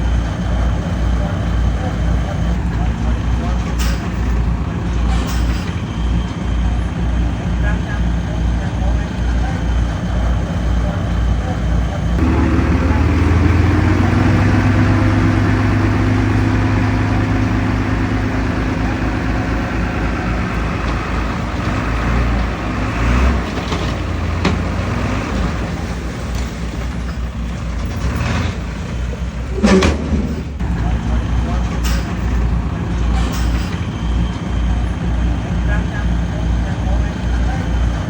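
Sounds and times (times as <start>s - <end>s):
diesel machinery engine drone: 0.0s - 38.0s.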